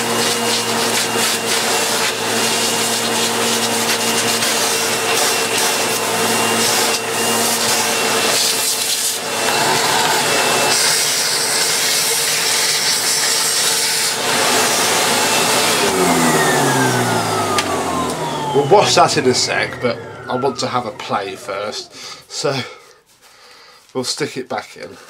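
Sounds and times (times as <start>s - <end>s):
vacuum cleaner running: 0.0s - 22.5s.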